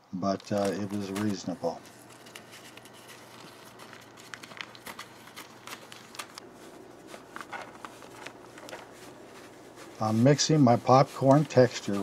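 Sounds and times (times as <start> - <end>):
plastic bag crinkling: 0.2 - 12.0.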